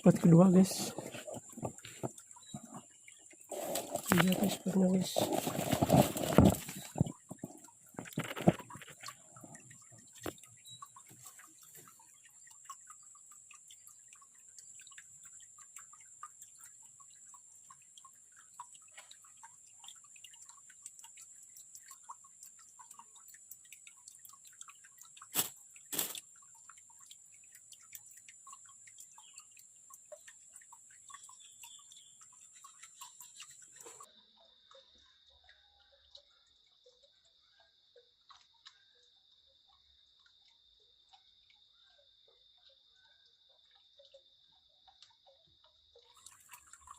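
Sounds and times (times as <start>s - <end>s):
water drips and trickles: 0.0s - 46.9s.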